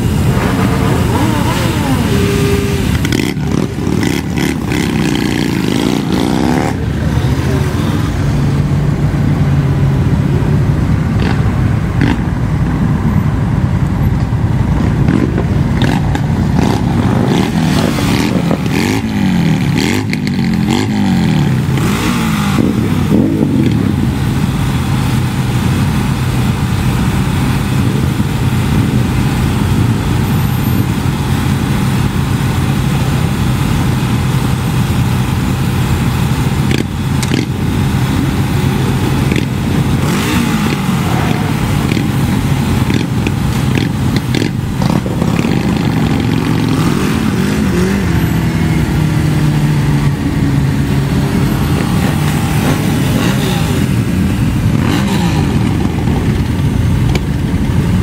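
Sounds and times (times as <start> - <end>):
motorcycle engines revving and idling: 0.0 - 58.0.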